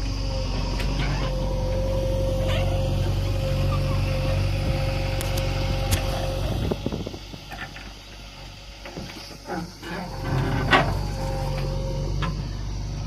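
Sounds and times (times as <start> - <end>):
diesel engine running: 0.0 - 13.0
steady whine: 0.0 - 13.0.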